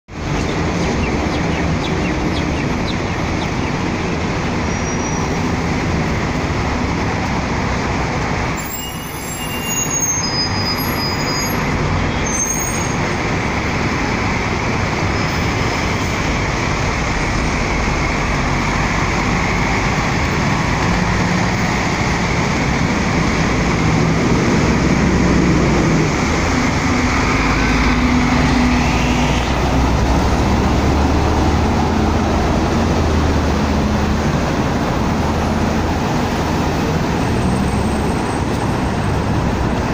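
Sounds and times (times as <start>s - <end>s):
bus diesel engine: 0.1s - 39.9s
road traffic: 0.1s - 39.9s.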